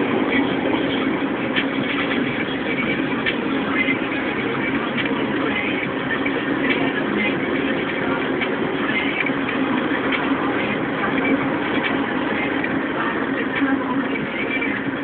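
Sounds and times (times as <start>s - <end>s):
heavy vehicle engines in traffic: 0.0s - 15.0s.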